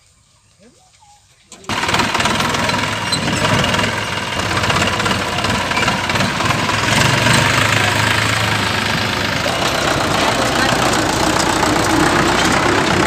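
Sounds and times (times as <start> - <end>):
tractor diesel engine driving by: 1.5 - 13.0.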